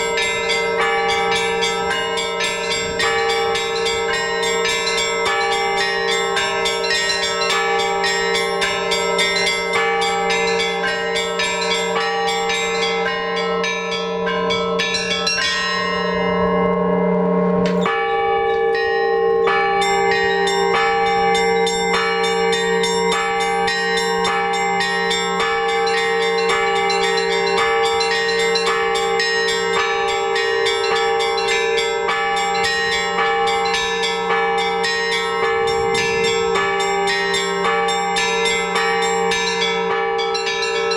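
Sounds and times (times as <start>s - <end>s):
big church bells humming: 0.0s - 40.9s
small church bells striking: 0.0s - 40.9s.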